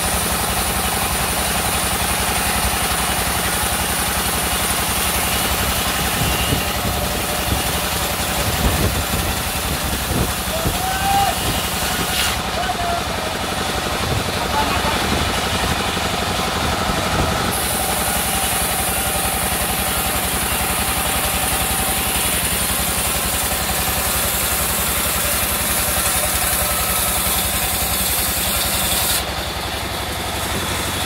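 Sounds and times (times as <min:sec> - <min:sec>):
saw blade cutting hiss: 0:00.0 - 0:12.6, 0:17.5 - 0:31.0
sawmill motor drone: 0:00.0 - 0:31.0.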